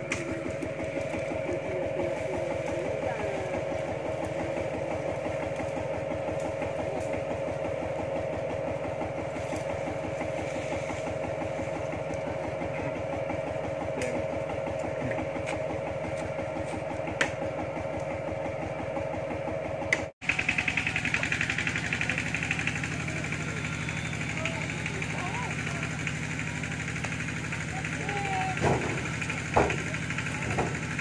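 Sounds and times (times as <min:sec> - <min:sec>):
diesel tractor engine idling: 0:00.0 - 0:31.0.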